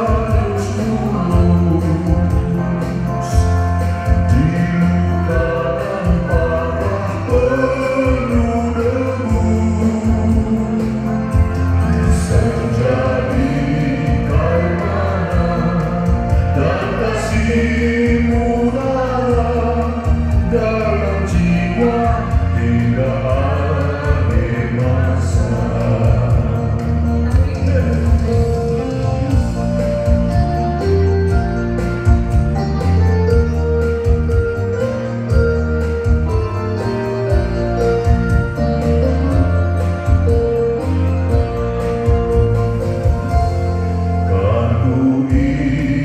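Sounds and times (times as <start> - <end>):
person singing over a steady beat: 0.0 - 46.0.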